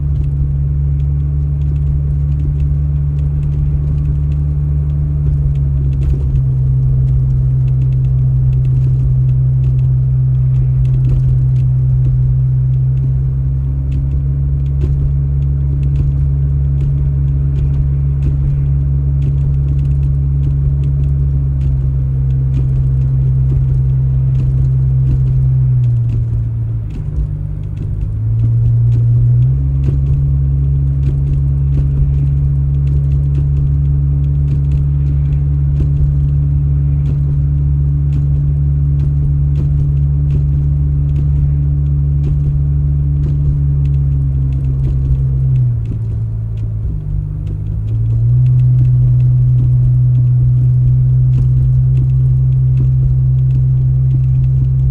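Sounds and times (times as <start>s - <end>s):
engine droning: 0.0s - 54.9s.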